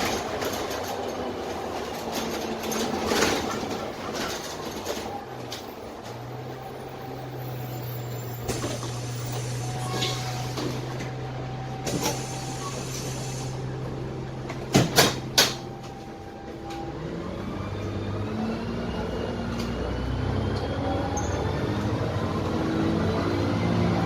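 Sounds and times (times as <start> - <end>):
bus diesel engine: 0.0 - 24.0.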